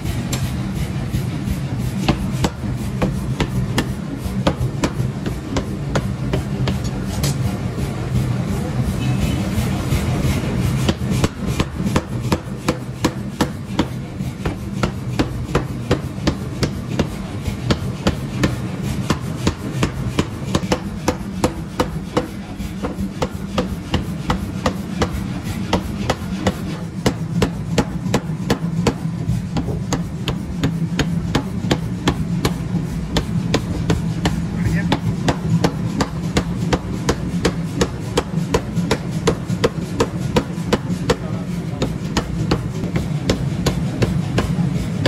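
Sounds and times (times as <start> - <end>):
power hammer pounding steel: 0.0 - 45.0.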